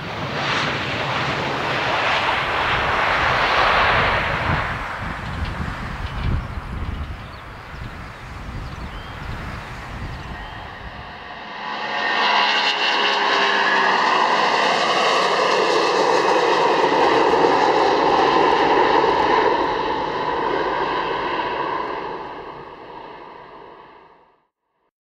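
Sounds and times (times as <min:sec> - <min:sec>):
jet engine roar: 0:00.0 - 0:24.2.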